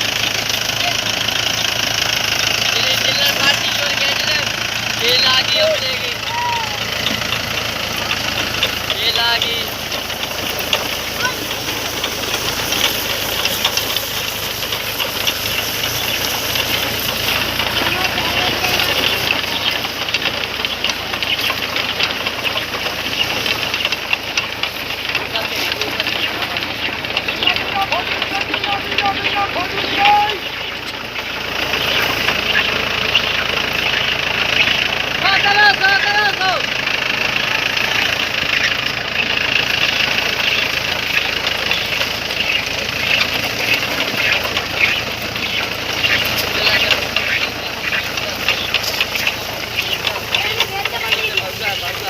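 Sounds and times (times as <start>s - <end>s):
harvester rattling clatter: 0.0s - 52.0s
tractor engine running: 0.0s - 52.0s.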